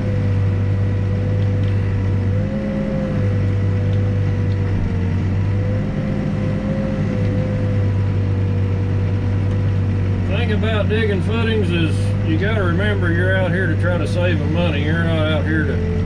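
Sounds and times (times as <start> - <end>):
backhoe diesel engine running: 0.0 - 16.0.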